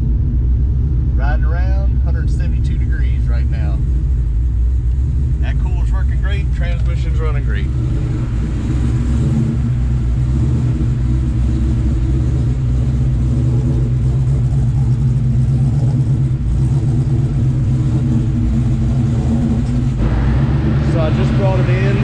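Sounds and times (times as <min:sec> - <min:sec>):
car engine cruising: 0:00.0 - 0:22.0
road rumble: 0:00.0 - 0:22.0.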